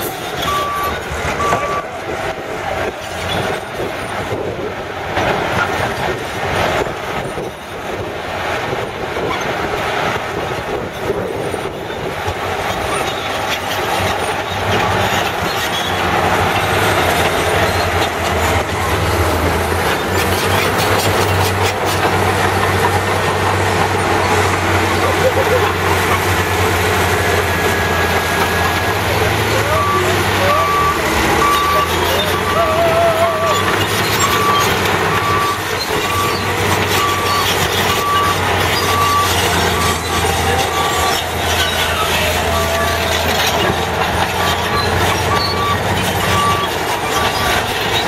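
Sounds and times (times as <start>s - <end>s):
dozer diesel engine under load: 0.0s - 48.0s
loader diesel engine drone: 0.0s - 48.0s
steel tracks clanking: 0.0s - 48.0s.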